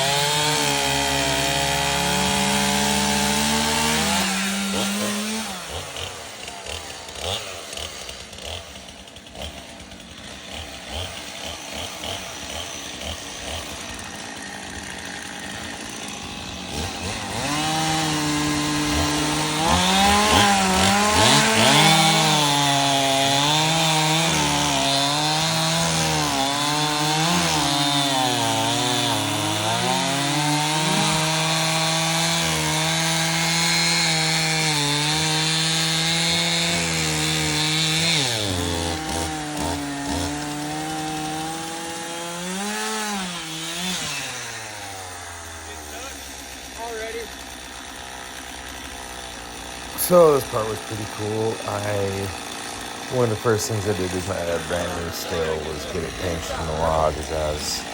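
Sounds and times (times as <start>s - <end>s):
chainsaw cutting through log: 0.0s - 57.9s.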